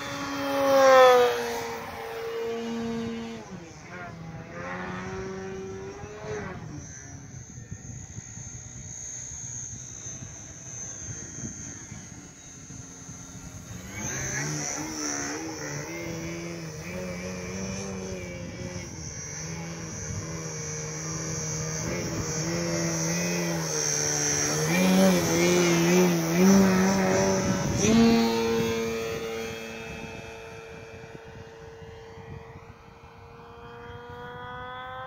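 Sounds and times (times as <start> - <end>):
model airplane motor and propeller: 0.0 - 35.0.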